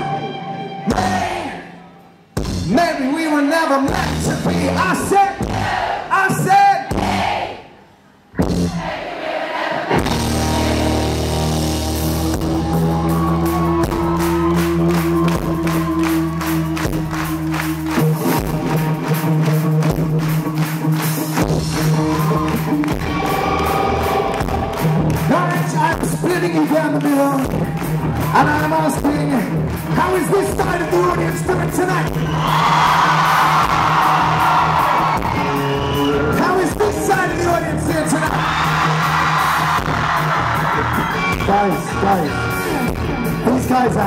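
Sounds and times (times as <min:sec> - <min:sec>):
electric guitar: 0:00.0 - 0:01.4, 0:09.9 - 0:44.0
bass guitar: 0:00.0 - 0:01.6, 0:02.4 - 0:02.9, 0:03.9 - 0:05.8, 0:08.3 - 0:08.9, 0:09.9 - 0:44.0
drum kit: 0:02.4 - 0:02.9, 0:03.9 - 0:07.3, 0:08.4 - 0:09.0, 0:09.8 - 0:44.0.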